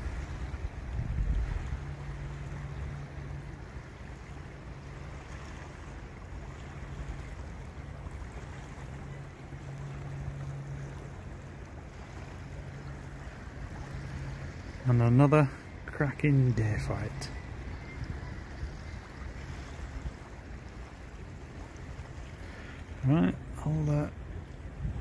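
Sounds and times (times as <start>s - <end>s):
boat engine drone: 0.0s - 25.0s
river water against wall: 0.0s - 25.0s
wind: 0.0s - 25.0s.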